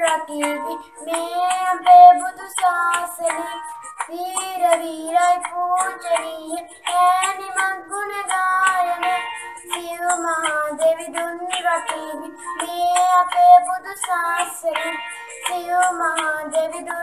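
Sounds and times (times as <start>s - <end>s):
boy singing devotional song: 0.0s - 17.0s.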